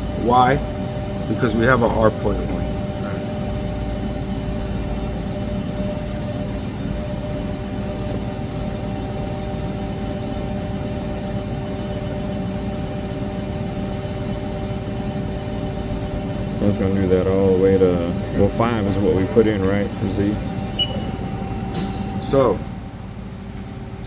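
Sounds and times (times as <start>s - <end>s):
lathe running: 0.0s - 24.0s.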